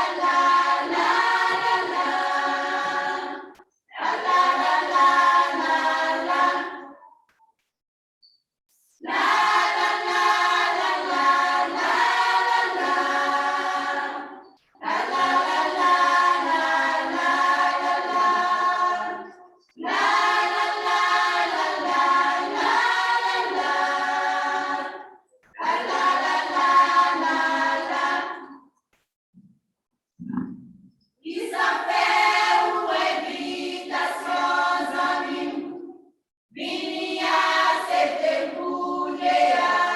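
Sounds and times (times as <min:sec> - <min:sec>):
choir singing a hymn: 0:00.0 - 0:07.1, 0:09.0 - 0:28.7, 0:31.2 - 0:39.9.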